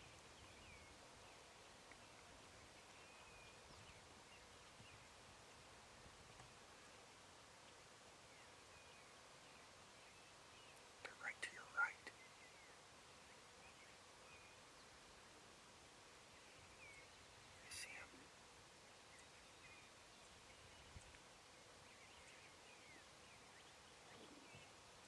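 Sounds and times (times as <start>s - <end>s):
faint songbird chirps: 0.0s - 25.0s.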